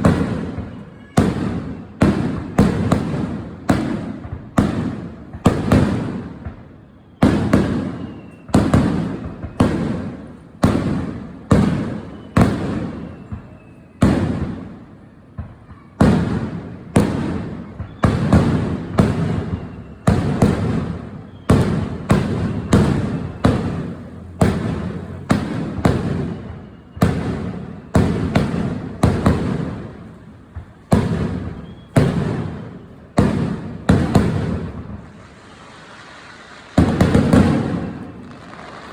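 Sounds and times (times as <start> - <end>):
fireworks booming: 0.0 - 38.9.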